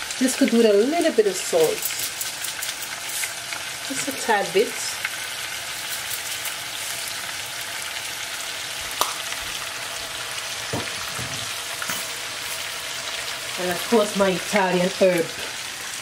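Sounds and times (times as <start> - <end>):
fish sizzling in a skillet: 0.0 - 16.0.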